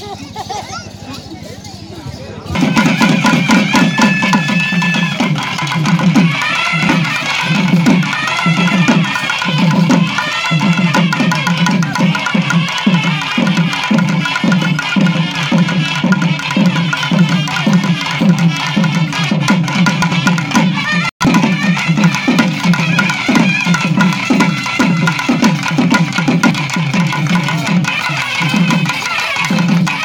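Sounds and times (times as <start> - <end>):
barrel drums beating: 2.6 - 30.0.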